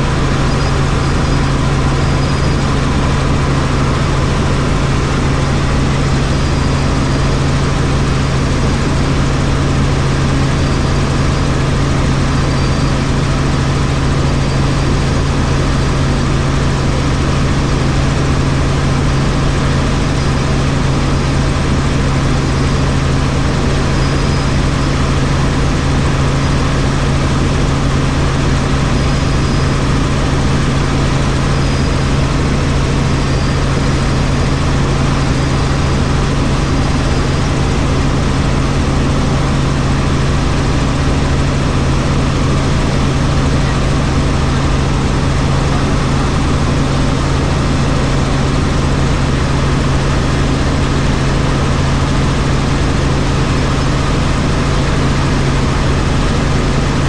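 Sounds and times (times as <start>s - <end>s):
helicopter flying: 0.0s - 57.0s.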